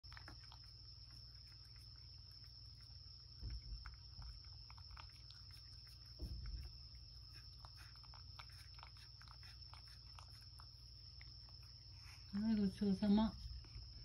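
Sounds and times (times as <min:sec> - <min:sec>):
cat licking and chewing: 0:00.0 - 0:14.0.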